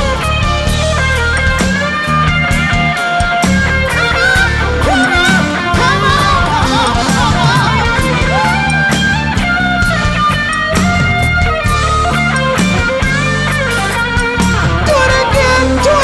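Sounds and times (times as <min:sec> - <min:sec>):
bass: 0:00.0 - 0:16.0
electric guitar lead lines: 0:00.0 - 0:16.0.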